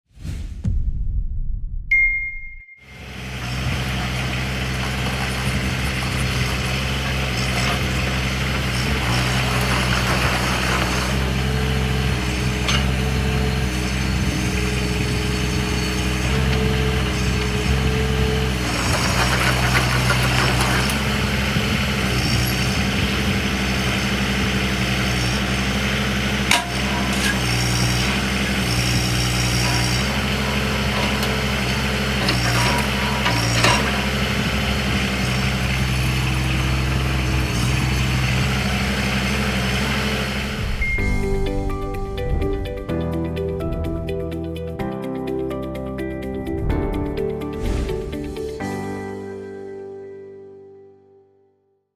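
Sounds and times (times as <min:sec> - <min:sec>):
excavator engine running: 0:02.9 - 0:48.8.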